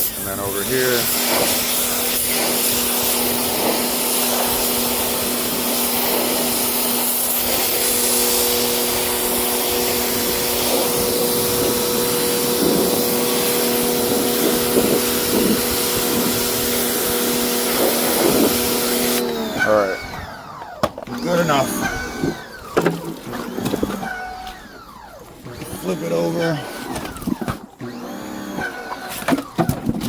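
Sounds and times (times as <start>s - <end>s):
water gurgling in vacuum: 0.0s - 20.6s, 21.2s - 27.4s
shop vacuum running: 0.0s - 30.0s.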